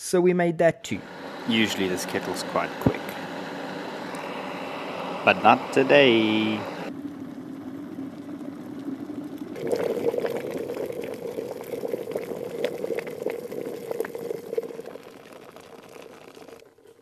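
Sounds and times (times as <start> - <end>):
kettle water bubbling: 0.9 - 17.0
crackles and pops: 1.0 - 17.0.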